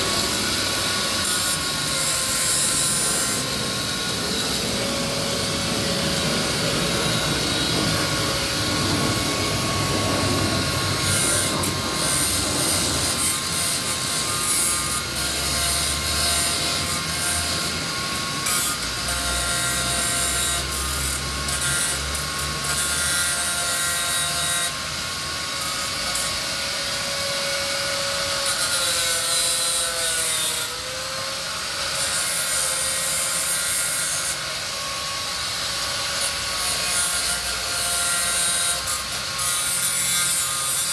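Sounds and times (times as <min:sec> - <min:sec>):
angle grinder whining: 0:00.0 - 0:40.9
grinder disc grinding metal: 0:00.0 - 0:40.9.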